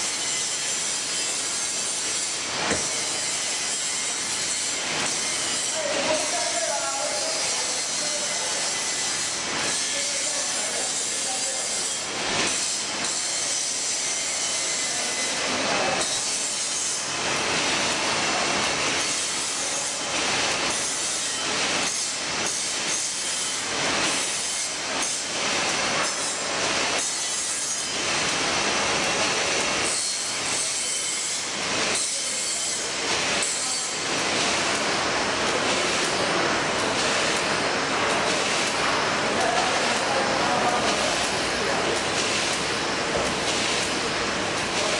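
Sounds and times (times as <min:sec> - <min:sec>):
laminator rattling and hissing: 0:00.0 - 0:44.9.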